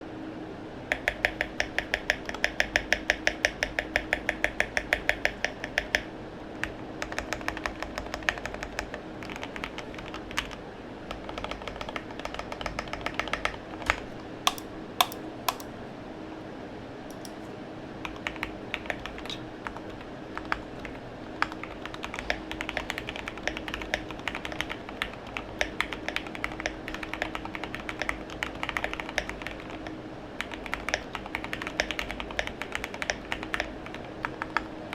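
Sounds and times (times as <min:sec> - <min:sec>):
faint steady hum: 0:00.0 - 0:34.9
mechanical keyboard typing: 0:00.9 - 0:15.7, 0:17.1 - 0:17.4, 0:18.0 - 0:34.7.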